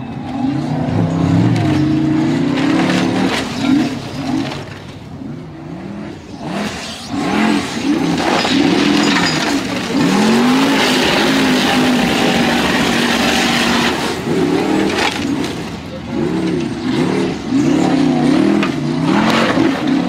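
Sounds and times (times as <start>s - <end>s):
racing engine revving: 0.0s - 20.0s.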